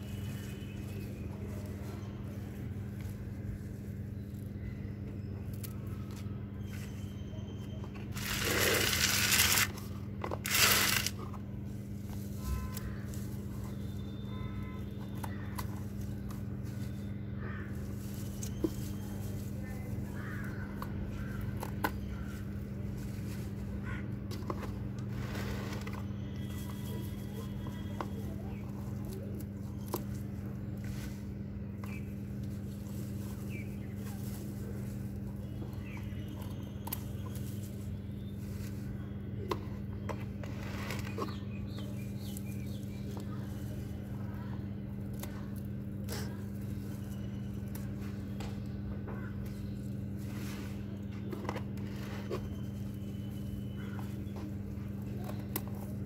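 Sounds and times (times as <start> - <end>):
leafy stems rustling and crunching: 0.0 - 7.1, 8.0 - 56.0
faint steady hum: 0.0 - 56.0.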